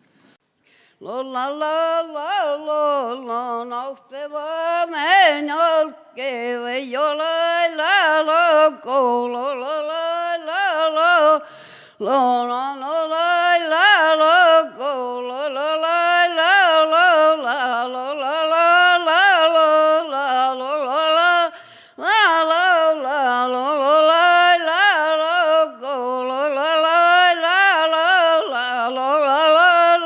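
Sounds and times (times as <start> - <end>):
person singing unaccompanied: 1.0 - 30.0.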